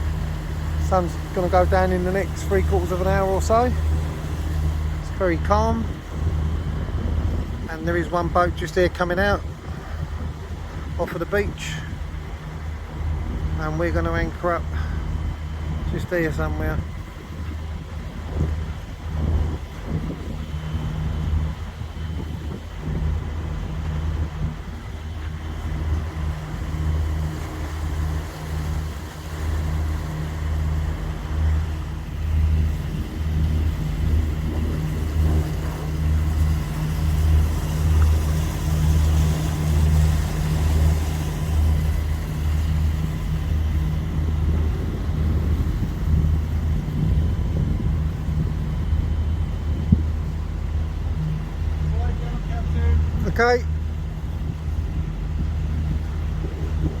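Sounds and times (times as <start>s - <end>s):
boat diesel engine droning: 0.0s - 57.0s.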